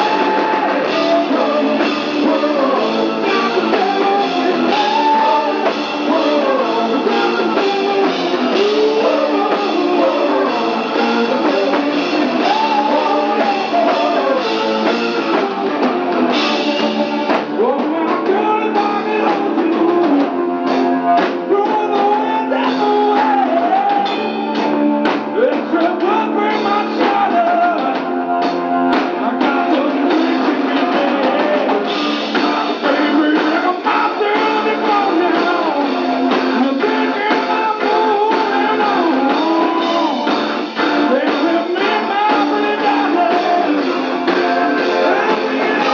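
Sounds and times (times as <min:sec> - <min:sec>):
distorted electric guitar: 0:00.0 - 0:45.9
drum kit: 0:00.0 - 0:45.9
live rock band playing: 0:00.0 - 0:45.9
person singing: 0:00.0 - 0:45.9.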